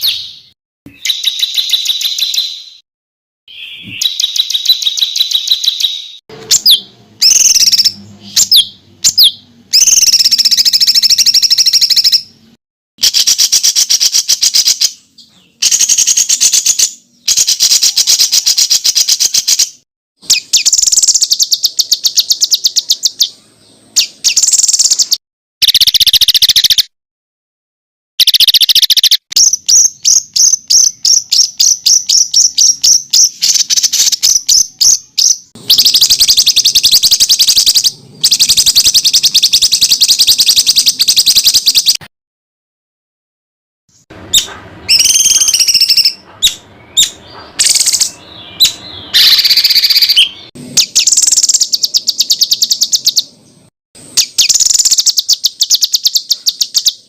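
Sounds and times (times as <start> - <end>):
songbird trilling and chattering: 0.0 - 2.8, 3.5 - 12.3, 13.0 - 26.9, 28.2 - 42.0, 44.4 - 53.4, 54.2 - 57.0.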